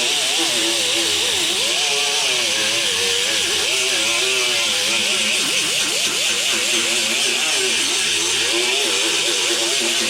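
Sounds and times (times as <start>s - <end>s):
power grinder on metal: 0.0s - 10.0s.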